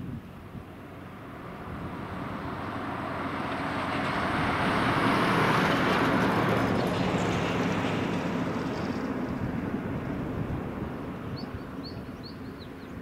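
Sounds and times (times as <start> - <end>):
light plane engine and propeller: 0.0 - 13.0.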